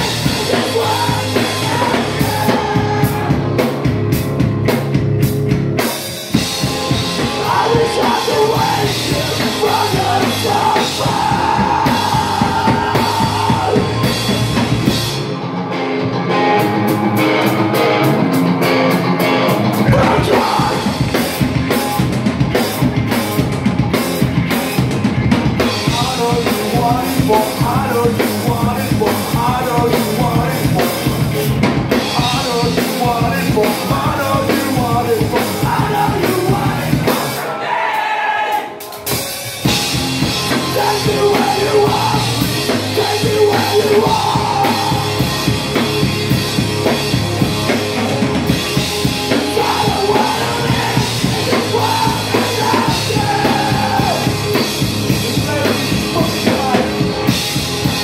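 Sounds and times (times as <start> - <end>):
electric guitar: 0.0 - 37.4, 38.9 - 58.0
bass guitar: 0.0 - 37.7, 38.8 - 58.0
drum kit: 0.0 - 58.0.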